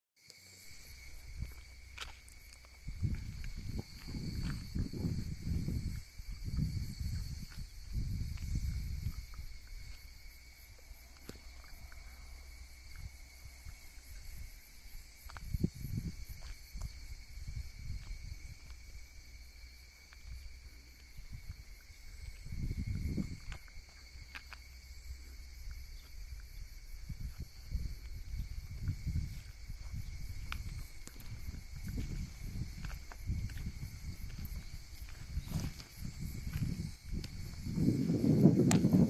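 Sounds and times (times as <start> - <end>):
insects chirring: 0.2 - 39.0.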